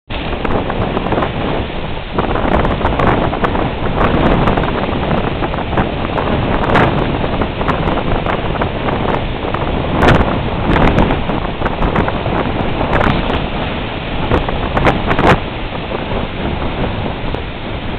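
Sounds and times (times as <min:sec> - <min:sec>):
lake surf breaking: 0:00.1 - 0:17.9
wind buffeting microphone: 0:00.1 - 0:17.9.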